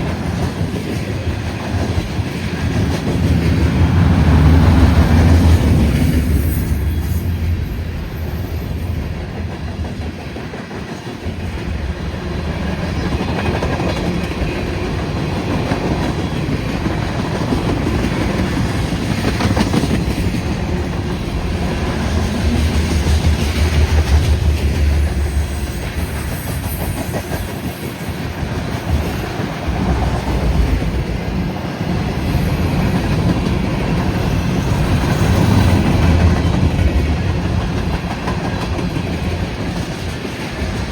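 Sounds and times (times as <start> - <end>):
freight train rumbling: 0.0 - 40.9.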